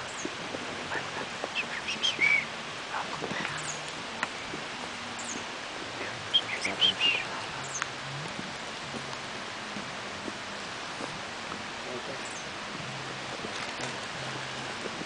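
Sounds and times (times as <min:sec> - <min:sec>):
forest rushing hiss: 0:00.0 - 0:15.0
small birds chirping: 0:00.0 - 0:15.0.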